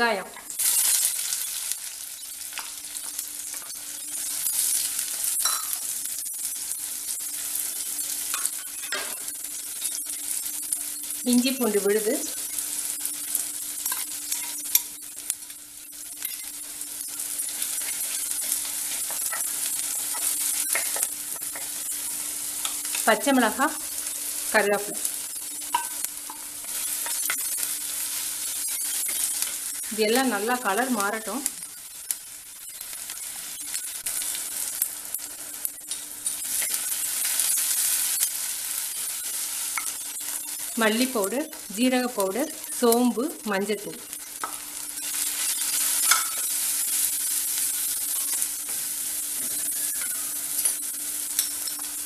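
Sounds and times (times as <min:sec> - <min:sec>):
onions sizzling in oil: 0:00.0 - 0:52.0.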